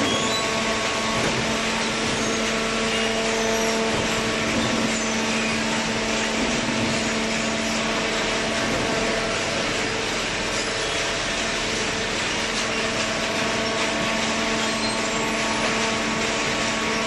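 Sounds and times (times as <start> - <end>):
machine hissing and humming: 0.0 - 17.0.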